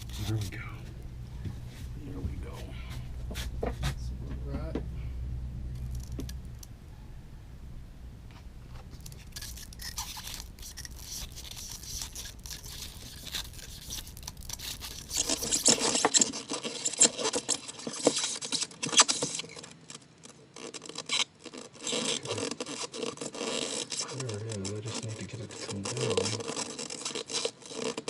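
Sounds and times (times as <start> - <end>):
cables scraping and rubbing: 0.0 - 4.0, 8.3 - 28.0.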